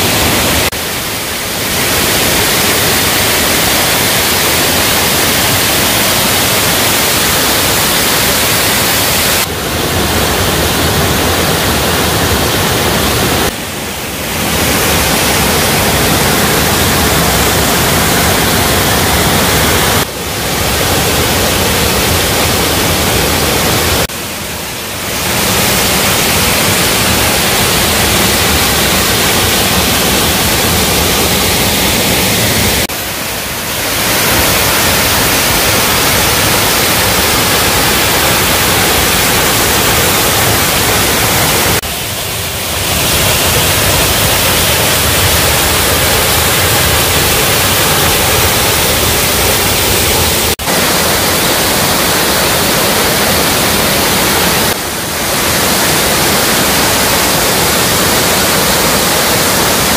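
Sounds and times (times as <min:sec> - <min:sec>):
waterfall rushing over rock: 0:00.0 - 0:59.9.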